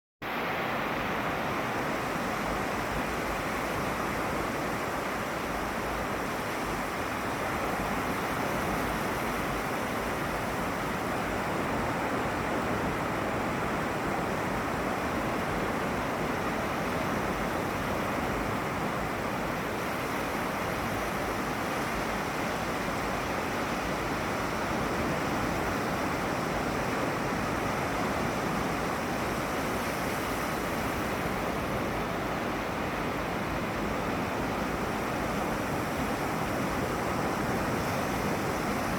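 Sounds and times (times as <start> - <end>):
ocean surf washing: 0.2 - 38.9.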